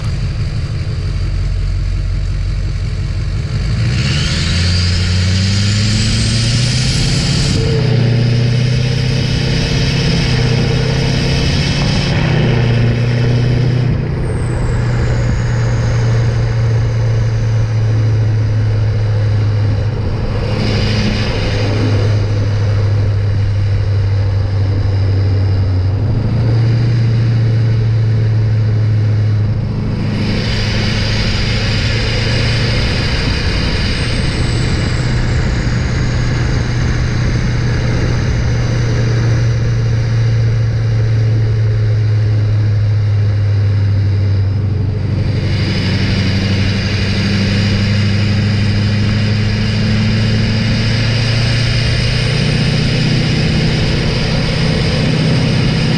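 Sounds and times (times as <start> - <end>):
diesel truck exhaust drone: 0.0 - 55.9.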